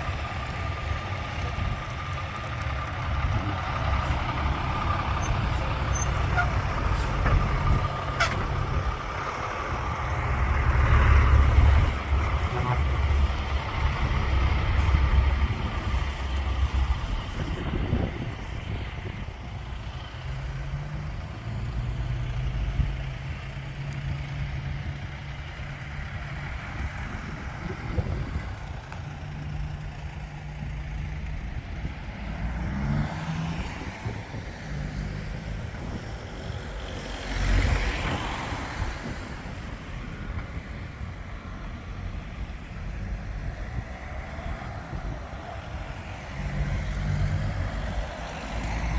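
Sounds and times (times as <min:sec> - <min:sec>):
lorry diesel engines passing: 0:00.0 - 0:48.9.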